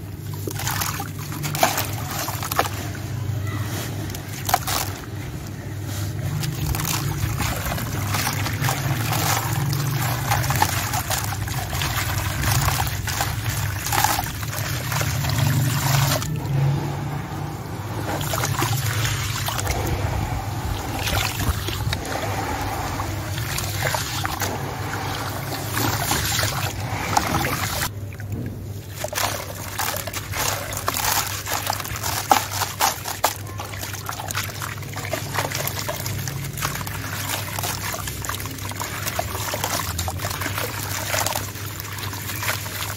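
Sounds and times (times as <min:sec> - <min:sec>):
water sloshing and trickling: 0:00.0 - 0:42.9.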